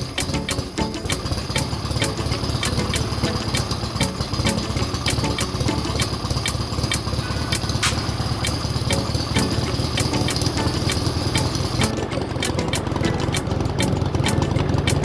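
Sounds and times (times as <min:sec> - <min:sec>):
airplane engine idling: 0:00.0 - 0:15.0
sharp clicks: 0:00.0 - 0:15.0.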